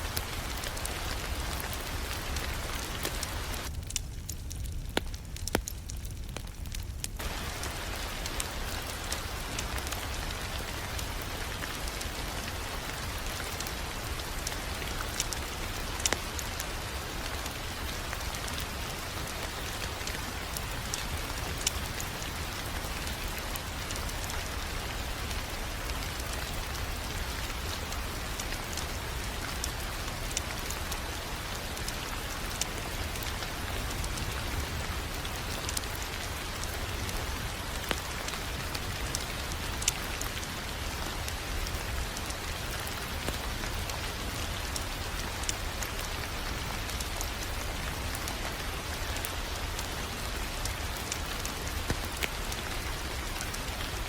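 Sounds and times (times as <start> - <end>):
crackling wood fire: 0.0 - 54.0.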